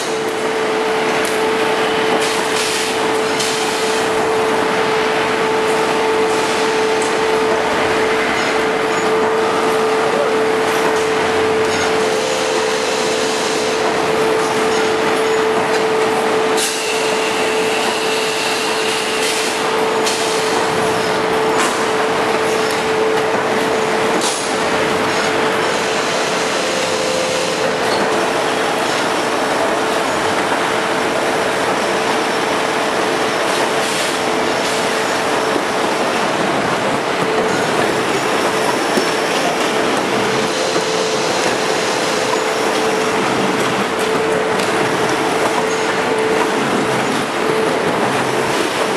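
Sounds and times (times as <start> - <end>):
constant machine hum: 0.0 - 48.9.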